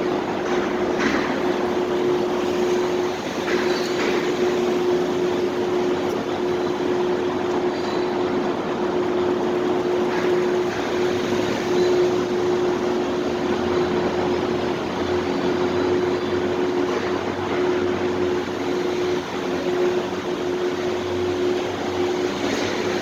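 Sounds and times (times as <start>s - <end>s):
constant mid-pitched hum: 0.0s - 23.0s.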